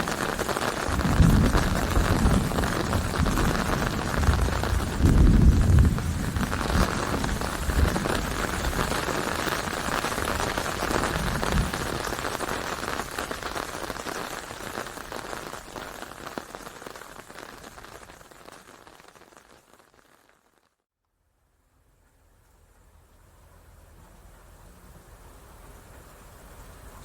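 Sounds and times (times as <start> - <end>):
steady rain: 0.0 - 20.8, 21.7 - 27.0.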